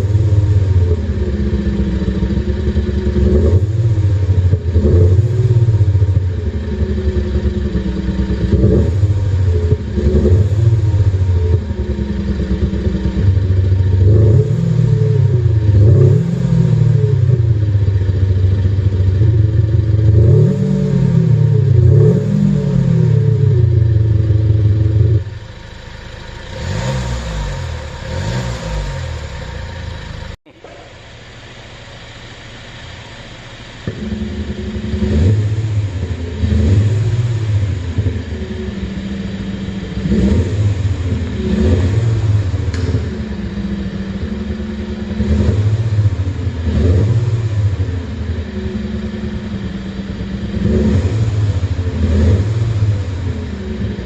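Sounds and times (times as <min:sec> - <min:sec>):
car engine revving: 0:00.0 - 0:54.0
synthesized exhaust note: 0:00.0 - 0:54.0.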